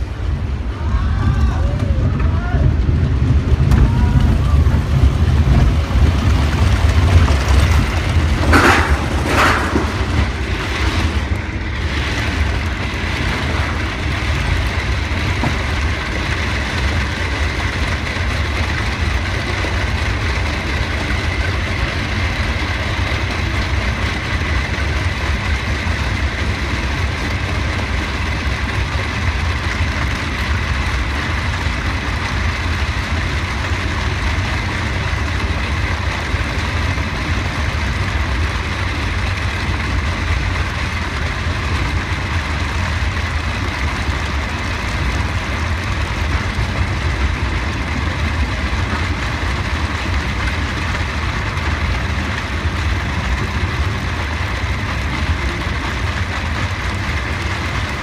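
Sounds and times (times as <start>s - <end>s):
roller coaster chain lift rumble: 0.0s - 58.0s.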